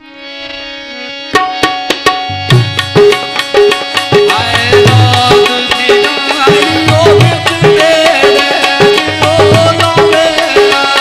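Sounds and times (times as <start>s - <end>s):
harmonium playing held chords: 0.0s - 11.0s
hand drum rhythm: 1.4s - 11.0s.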